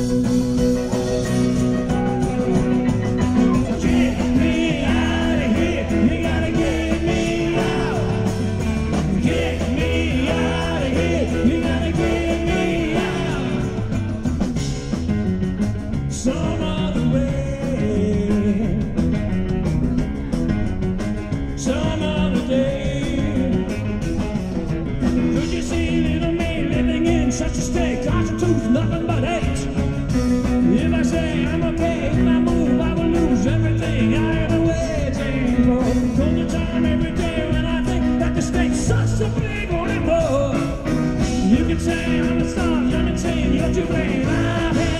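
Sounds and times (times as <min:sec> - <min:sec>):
rock band playing live: 0:00.0 - 0:44.9.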